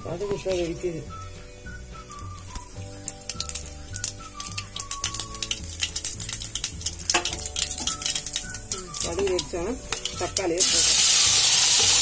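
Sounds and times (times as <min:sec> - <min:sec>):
background music with bass: 0:00.0 - 0:12.0
seeds popping in hot oil: 0:00.0 - 0:12.0.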